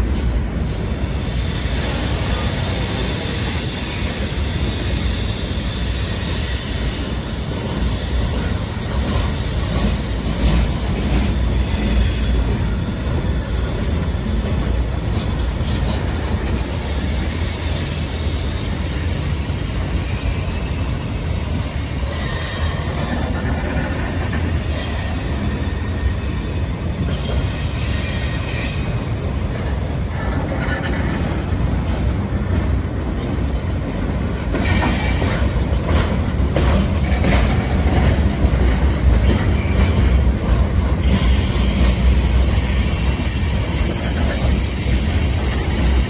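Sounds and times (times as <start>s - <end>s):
freight train rumble: 0.0s - 46.0s
train wheel squeal: 0.0s - 46.0s.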